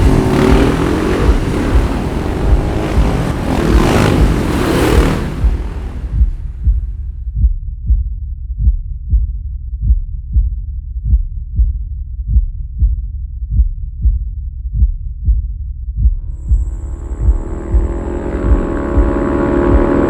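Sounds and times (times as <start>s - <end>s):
heartbeat thumps: 0.0s - 20.0s
steady low rumble: 0.0s - 20.0s.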